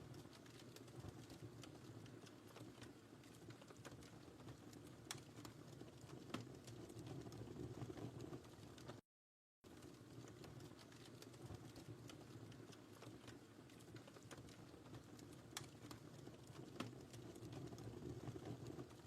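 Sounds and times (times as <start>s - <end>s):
fire crackling and popping: 0.0s - 9.0s, 9.7s - 19.0s
fire flames rumbling: 0.1s - 9.0s, 9.8s - 19.0s.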